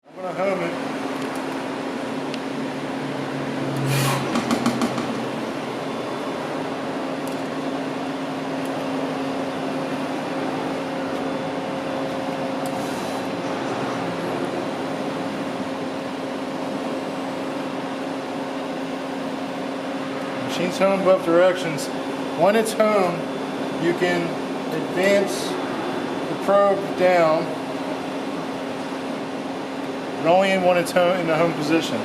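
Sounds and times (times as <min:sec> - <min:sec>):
lathe machine hum: 0:00.0 - 0:30.3.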